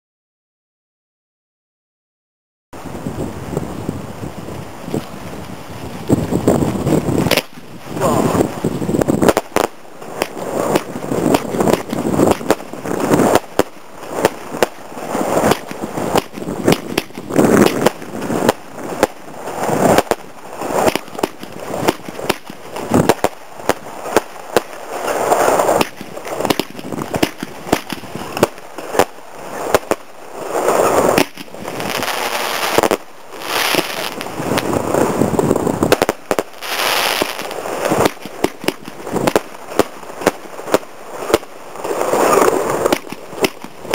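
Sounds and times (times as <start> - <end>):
firework cake bangs: 7.0 - 43.9.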